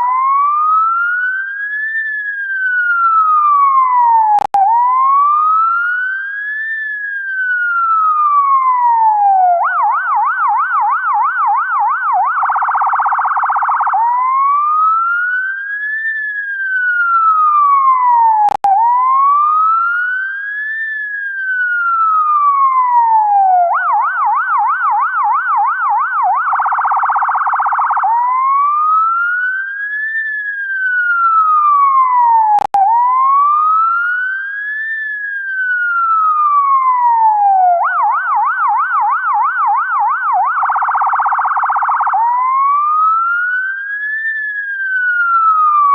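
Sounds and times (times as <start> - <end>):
ambulance siren cycling tones: 0.0 - 45.9.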